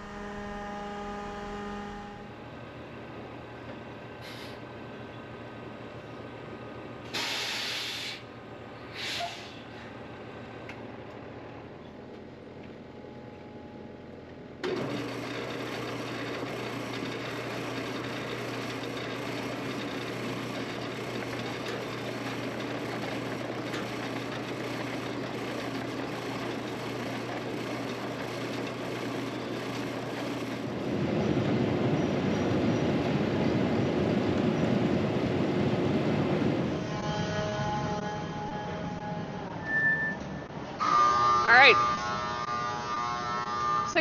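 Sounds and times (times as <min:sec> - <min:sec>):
heavy machinery engine hum: 0:00.0 - 0:41.3.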